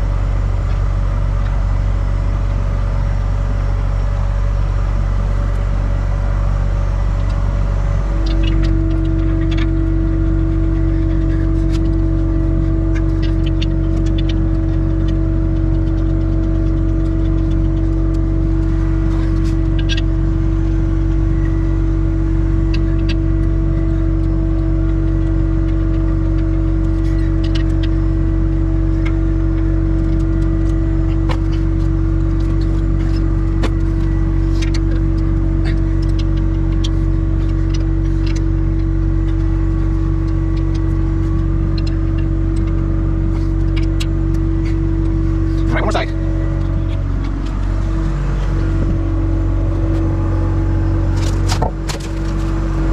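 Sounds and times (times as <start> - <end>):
skid steer engine idling: 0.0 - 52.9
steady humming tone: 0.0 - 52.9.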